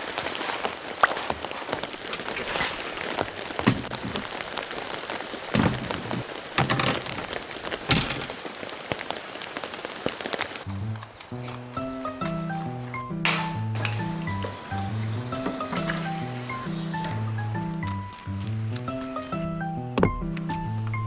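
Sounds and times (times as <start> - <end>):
heavy rain falling: 0.0 - 18.8
single raindrops landing: 0.0 - 18.9.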